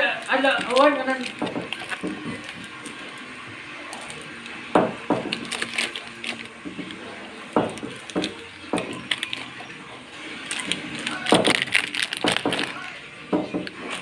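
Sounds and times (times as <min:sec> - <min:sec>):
hard items knocking in fridge: 0:00.2 - 0:03.2, 0:04.6 - 0:09.6, 0:10.5 - 0:14.0.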